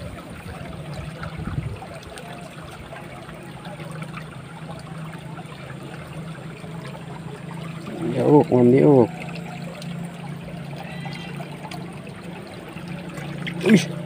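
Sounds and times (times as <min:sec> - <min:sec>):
water trickling in ditch: 0:00.0 - 0:14.0.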